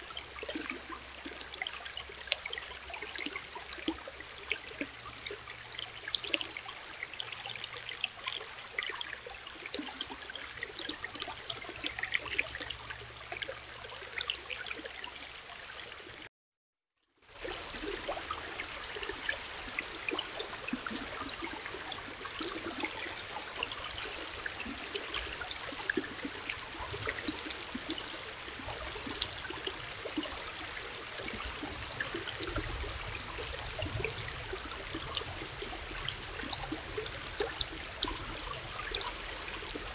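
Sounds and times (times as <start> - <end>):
stream running over rocks: 0.0 - 16.3, 17.2 - 39.9.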